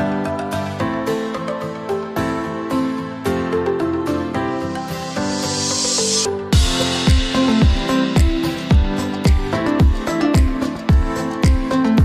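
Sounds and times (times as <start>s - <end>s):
gentle instrumental melody: 0.0s - 12.0s.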